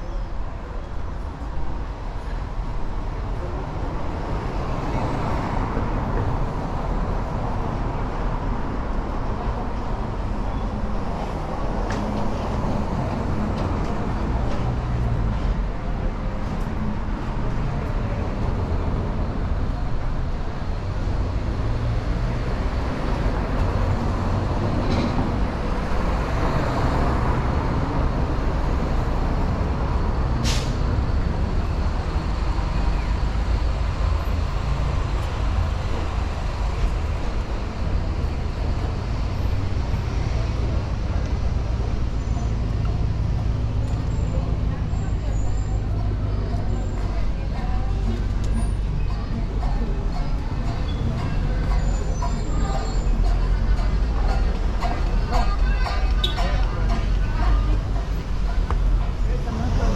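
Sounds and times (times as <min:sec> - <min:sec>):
vehicle engines passing: 0:00.4 - 0:59.9.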